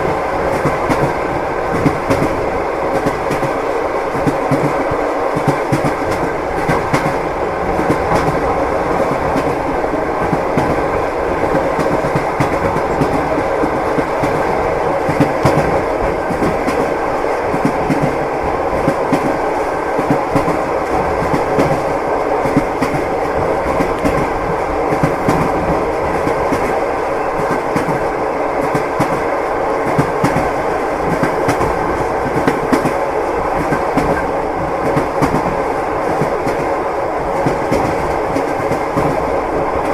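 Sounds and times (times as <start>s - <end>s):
train wheels rumbling: 0.0s - 39.9s
wheels clickety-clack on rail joints: 0.0s - 39.9s.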